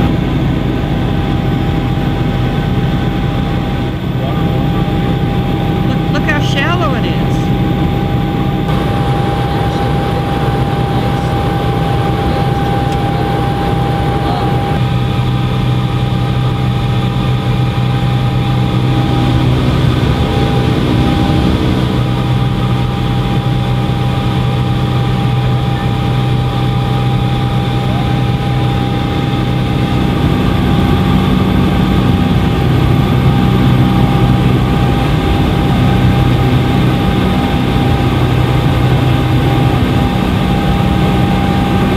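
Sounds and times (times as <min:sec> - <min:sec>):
helicopter engine and rotor drone: 0:00.0 - 0:41.9
high whine: 0:00.0 - 0:41.9.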